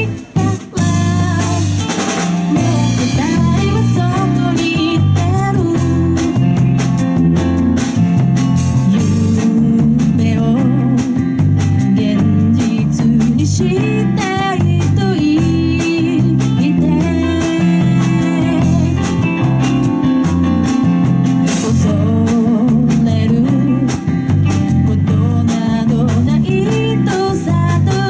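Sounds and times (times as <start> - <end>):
live band playing: 0.0 - 28.0
wavering lead melody: 0.0 - 28.0.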